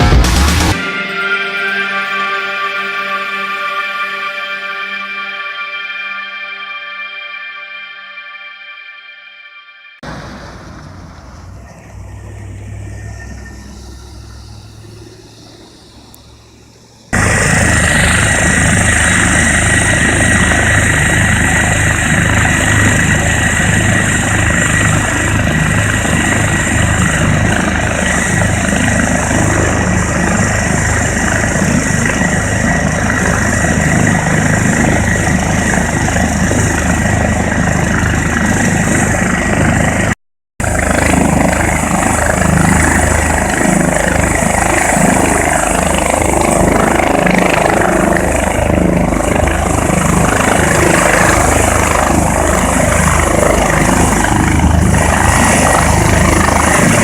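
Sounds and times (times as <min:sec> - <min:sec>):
rotor blades throbbing: 0:00.0 - 0:07.1, 0:10.0 - 0:57.0
helicopter turbine whine: 0:00.0 - 0:57.0.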